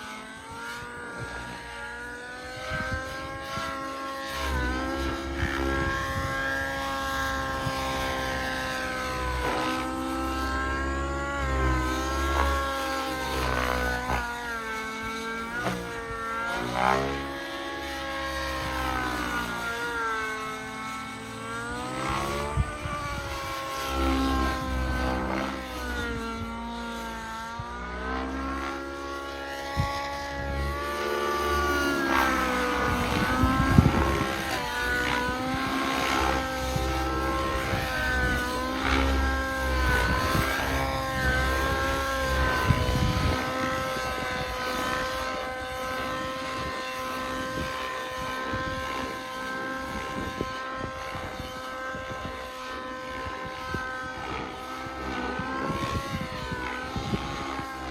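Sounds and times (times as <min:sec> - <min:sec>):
low rotor noise: 0:00.0 - 0:57.9
model helicopter engine running: 0:00.0 - 0:57.9.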